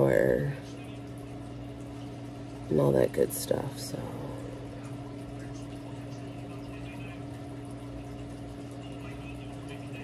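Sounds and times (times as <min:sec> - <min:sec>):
faint trickle of water: 0:00.0 - 0:10.0
steady low hum: 0:00.0 - 0:10.0.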